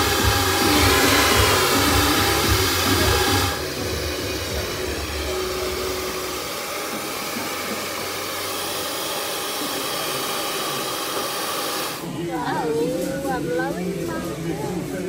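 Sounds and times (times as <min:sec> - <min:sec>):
hair dryer blowing: 0:00.0 - 0:12.1.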